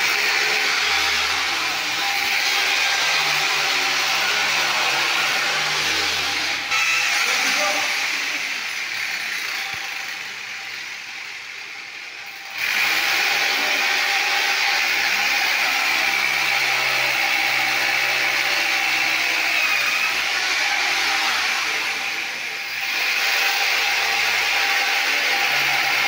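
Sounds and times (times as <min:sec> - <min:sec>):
angle grinder on concrete: 0:00.0 - 0:26.0.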